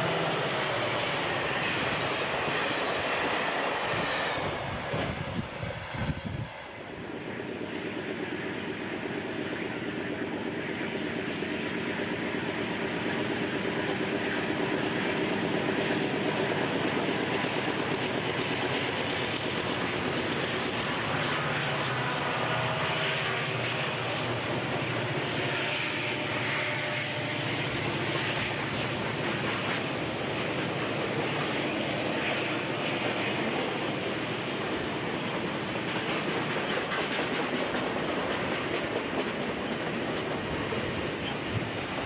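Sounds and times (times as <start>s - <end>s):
diesel locomotive engines: 0.0s - 42.0s.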